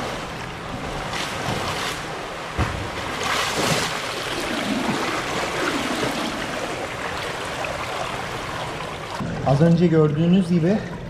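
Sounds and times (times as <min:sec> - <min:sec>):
swimmer splashing water: 0:00.0 - 0:09.2.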